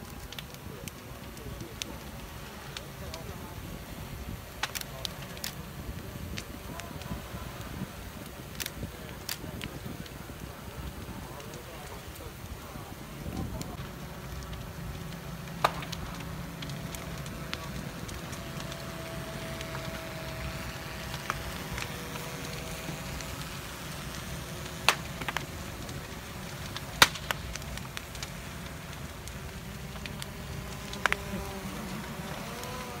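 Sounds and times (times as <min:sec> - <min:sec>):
fire cracks and pops: 0:00.0 - 0:33.0
roar of flames: 0:00.0 - 0:33.0.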